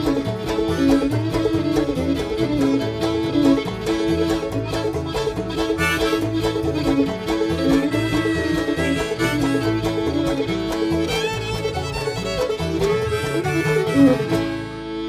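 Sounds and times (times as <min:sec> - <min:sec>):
banjo: 0:00.0 - 0:15.0
fiddle: 0:00.0 - 0:15.0
guitar: 0:00.0 - 0:15.0
string band playing instrumental: 0:00.0 - 0:15.0
upright bass rhythm: 0:00.0 - 0:15.0.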